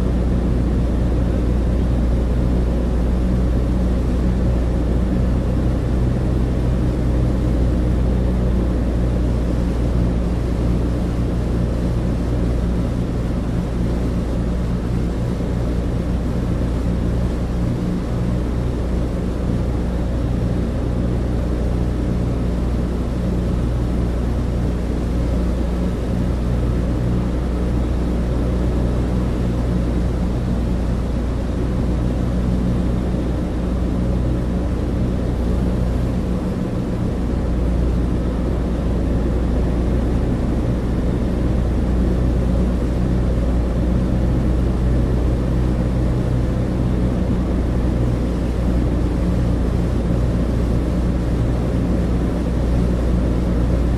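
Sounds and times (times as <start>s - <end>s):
airplane cabin engine drone: 0.0s - 53.9s.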